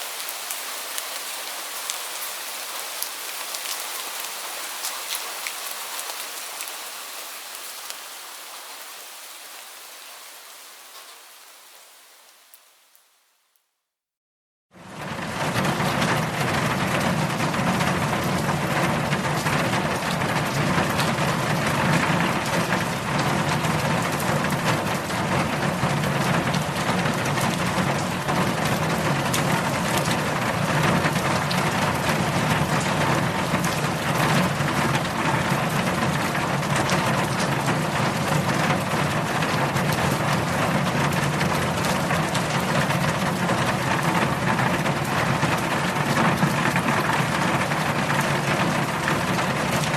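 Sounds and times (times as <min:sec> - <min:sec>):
heavy rain falling: 0:00.0 - 0:13.4, 0:14.8 - 0:49.9.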